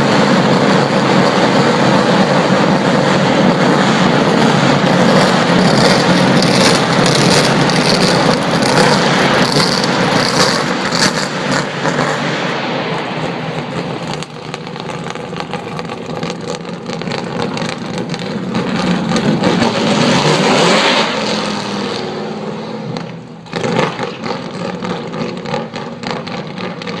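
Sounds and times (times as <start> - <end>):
race car engine running hard: 0.0 - 27.0.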